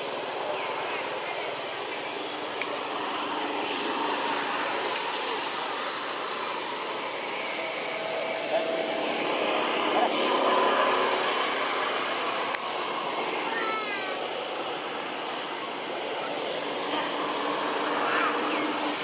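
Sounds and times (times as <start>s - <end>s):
faint voices: 0.0s - 19.0s
rushing hiss: 0.0s - 19.0s.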